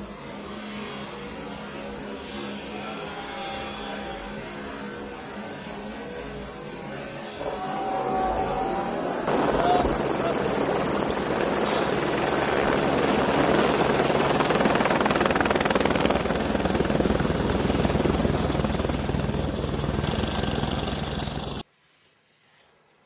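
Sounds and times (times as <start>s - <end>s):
loud rushing roar: 0.0s - 21.6s
low hum: 0.0s - 21.6s.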